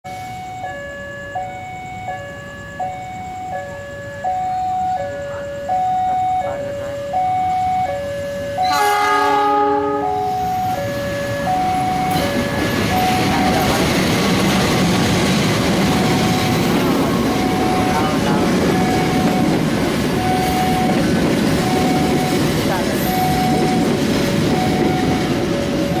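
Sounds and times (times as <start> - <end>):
level crossing two-tone alarm: 0.1 - 26.0.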